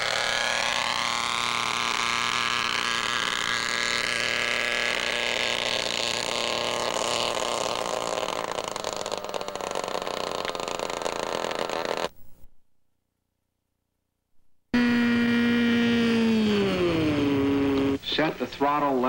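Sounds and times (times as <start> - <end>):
model helicopter engine and rotor whine: 0.0 - 12.1, 14.8 - 18.1.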